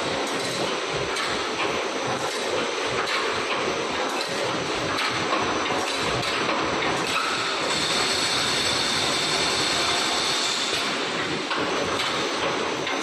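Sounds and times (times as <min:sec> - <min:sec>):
high machine whine: 0:00.0 - 0:13.0.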